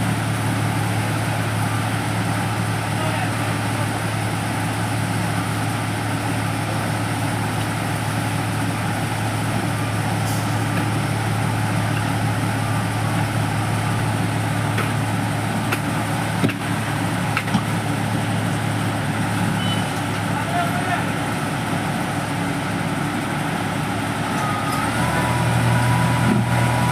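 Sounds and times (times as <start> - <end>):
diesel engine of paving machinery: 0.0 - 26.9.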